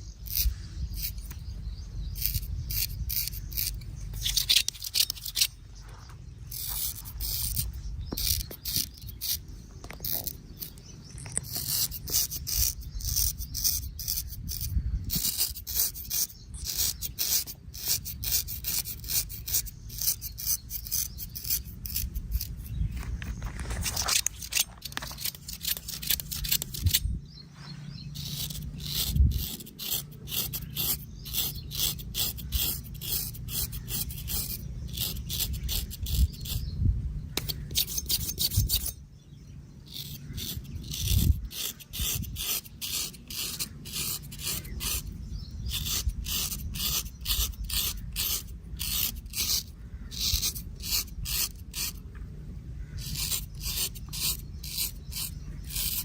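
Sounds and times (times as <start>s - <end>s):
razor scraping stubble: 0.0s - 56.0s.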